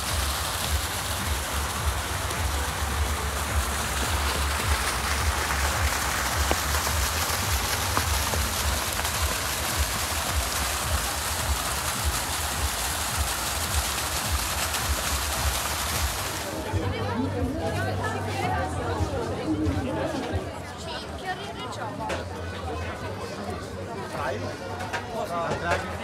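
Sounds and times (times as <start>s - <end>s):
fountain jets splashing into water: 0.0s - 26.0s.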